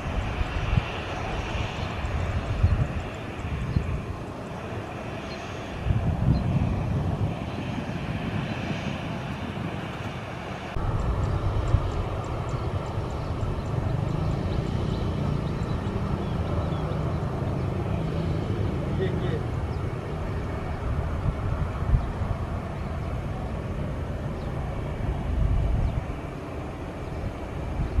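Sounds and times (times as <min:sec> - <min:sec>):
deep airliner rumble: 0:00.0 - 0:28.0
jet engines rumbling and whining: 0:00.0 - 0:28.0.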